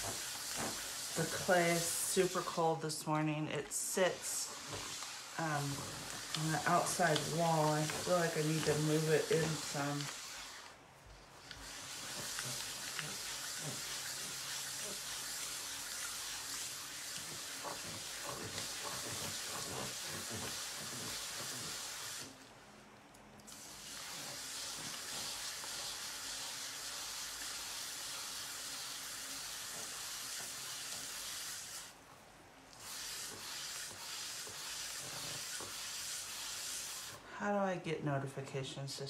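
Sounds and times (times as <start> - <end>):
clay swishing on potter's wheel: 0.0 - 22.5, 23.6 - 37.3.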